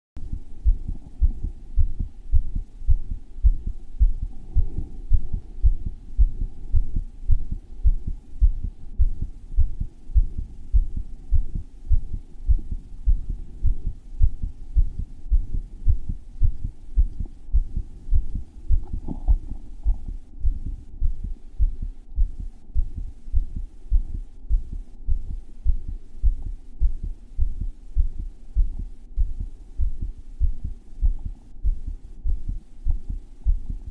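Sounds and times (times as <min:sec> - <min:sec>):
heart beating: 0:00.2 - 0:33.9.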